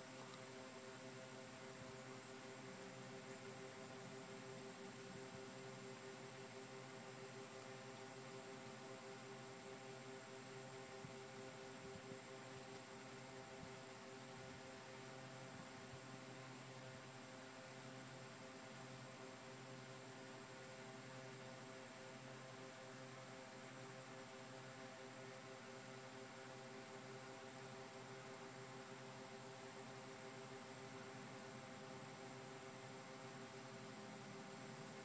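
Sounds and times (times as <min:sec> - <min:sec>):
faint hiss and hum: 0:00.0 - 0:35.0.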